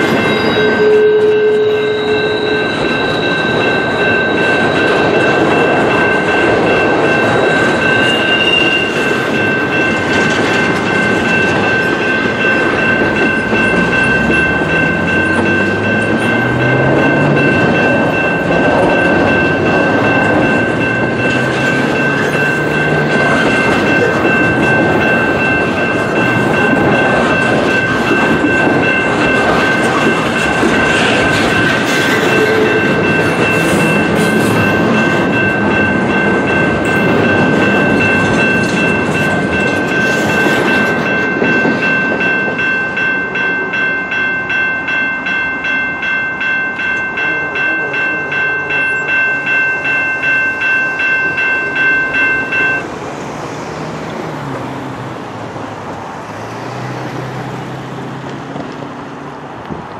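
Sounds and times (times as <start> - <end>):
level-crossing bell ringing: 0.0 - 53.0
train wheels clickety-clack: 0.0 - 54.6, 55.9 - 59.9.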